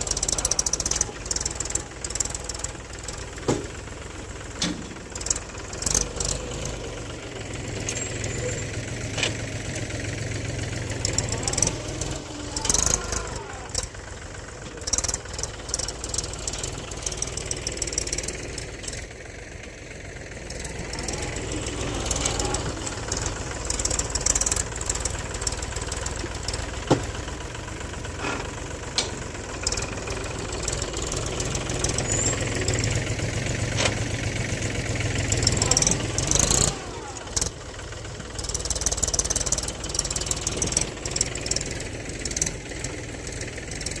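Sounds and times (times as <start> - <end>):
knocks and clatter of loader: 0.0 - 44.0
tractor diesel engine running: 0.0 - 44.0.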